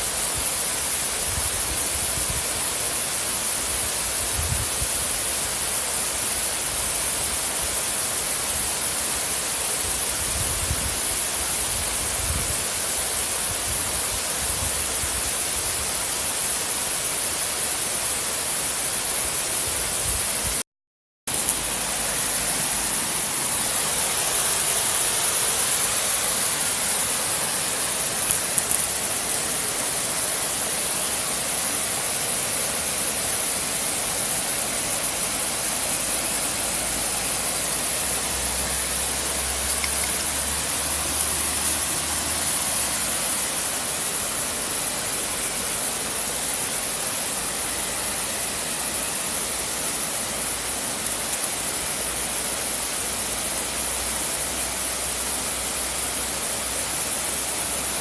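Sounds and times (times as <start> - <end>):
river water flowing: 0.0 - 20.6, 21.3 - 58.0.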